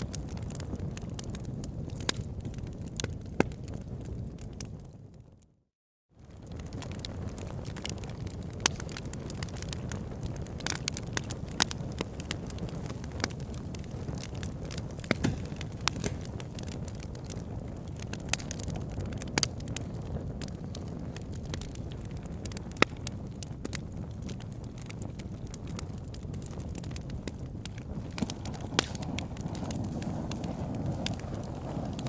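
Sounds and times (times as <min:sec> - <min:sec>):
wood fire crackling: 0:00.0 - 0:05.2, 0:06.2 - 0:32.0.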